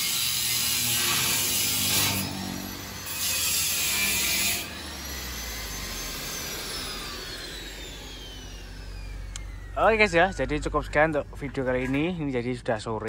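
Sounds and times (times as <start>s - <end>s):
angle grinder grinding steel pipe: 0.0s - 12.2s.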